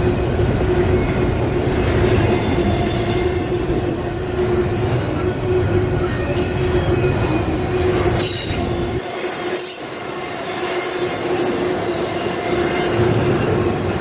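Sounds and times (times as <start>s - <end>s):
freight train cars rumbling: 0.0s - 14.0s.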